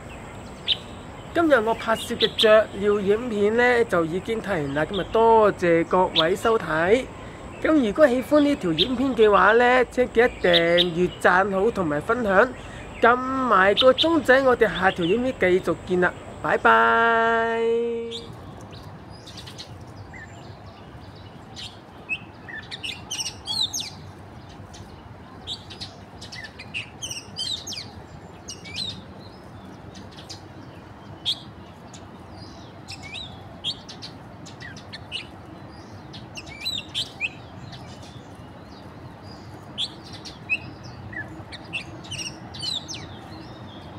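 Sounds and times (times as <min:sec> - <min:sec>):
birds chirping and whistling: 0:00.0 - 0:16.8, 0:18.0 - 0:43.9.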